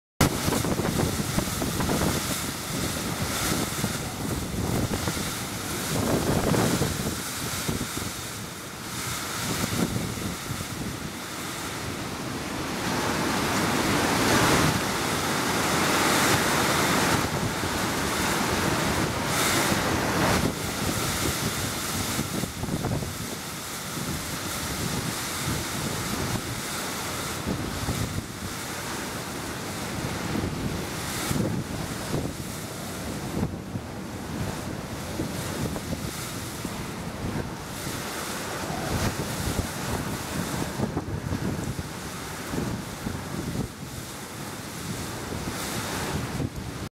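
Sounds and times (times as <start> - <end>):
strong gusting wind: 0.2 - 46.9.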